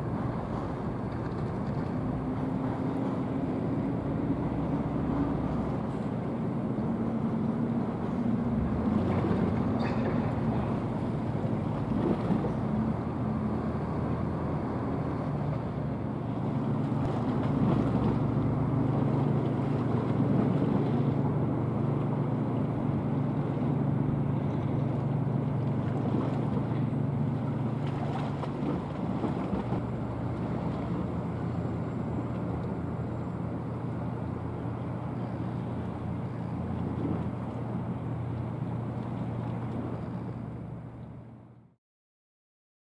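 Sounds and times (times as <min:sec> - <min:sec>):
ship diesel engines droning: 0:00.0 - 0:41.7.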